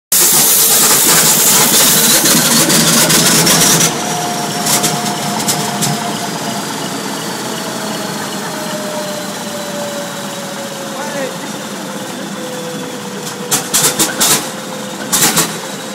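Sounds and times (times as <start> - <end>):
rushing hiss with rising whine: 0.1 - 15.9
diesel engine starting: 0.2 - 15.9
engine running with falling whine: 0.2 - 15.9.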